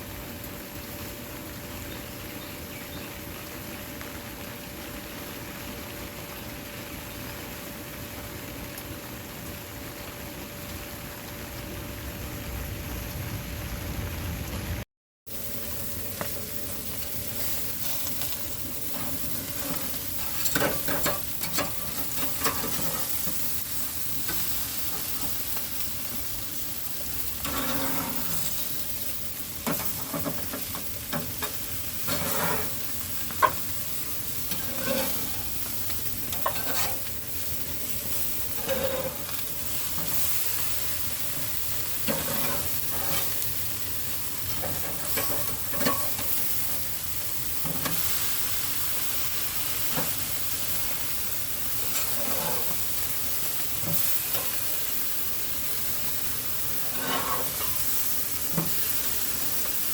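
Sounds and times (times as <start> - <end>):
patties sizzling on a grill: 0.0 - 59.9.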